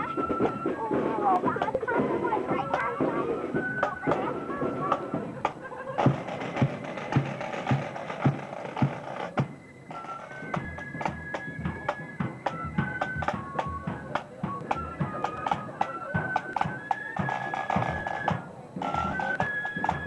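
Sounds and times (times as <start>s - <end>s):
high-pitched band melody: 0.0s - 20.0s
snare drums beating: 0.0s - 20.0s.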